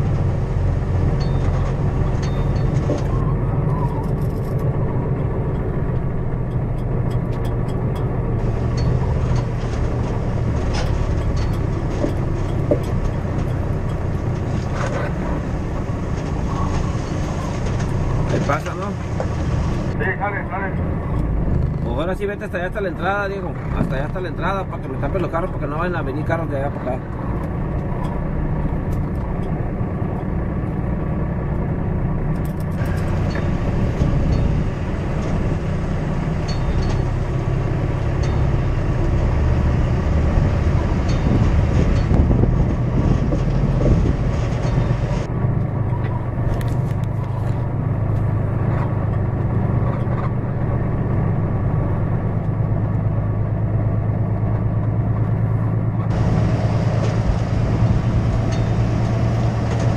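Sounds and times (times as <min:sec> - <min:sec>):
truck diesel engine running: 0:00.0 - 0:59.9.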